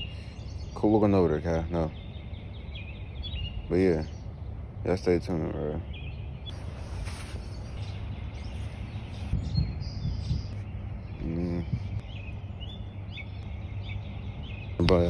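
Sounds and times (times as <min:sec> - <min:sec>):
small birds chirping: 0:00.0 - 0:15.0
steady low rumble: 0:01.2 - 0:15.0.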